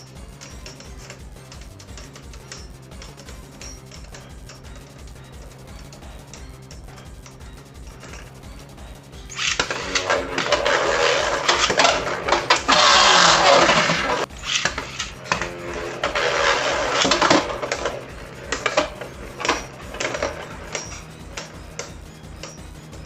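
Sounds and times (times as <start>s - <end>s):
spinning tops clashing: 0.0s - 8.5s, 9.2s - 23.0s.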